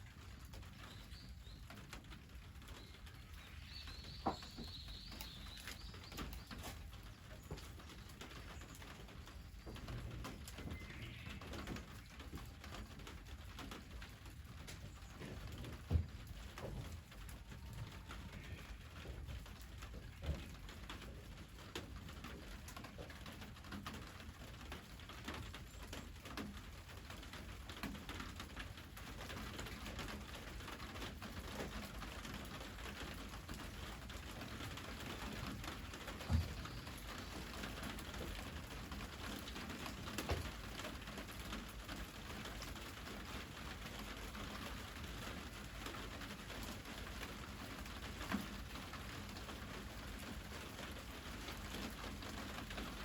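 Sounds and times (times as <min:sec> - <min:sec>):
rain pattering: 0:00.0 - 0:53.0.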